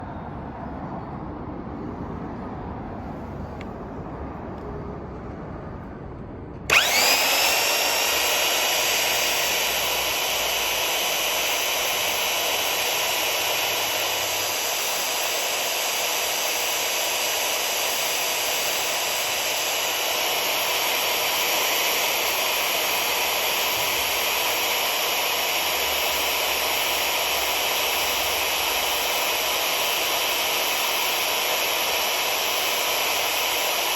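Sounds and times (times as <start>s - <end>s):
electric chainsaw motor whining: 6.7s - 33.9s.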